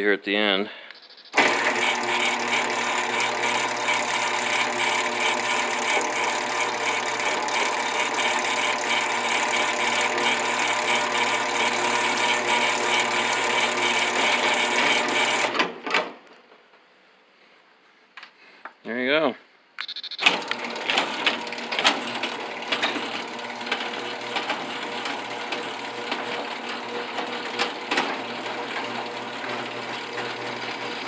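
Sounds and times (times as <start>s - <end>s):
garage door opener humming and rattling: 1.4s - 16.2s, 20.2s - 31.0s.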